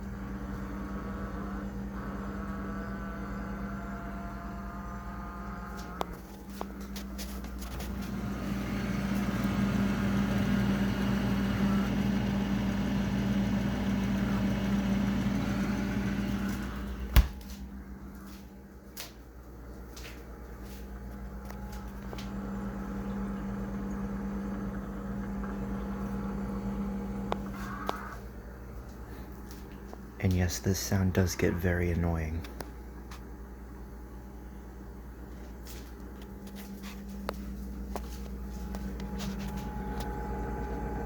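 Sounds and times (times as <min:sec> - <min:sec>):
refrigerator compressor humming: 0:00.0 - 0:41.0.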